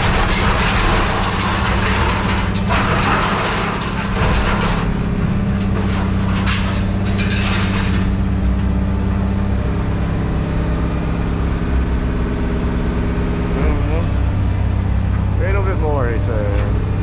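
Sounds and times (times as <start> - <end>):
heavy engine running: 0.0 - 17.0
scrap metal crunching and scraping: 0.0 - 17.0.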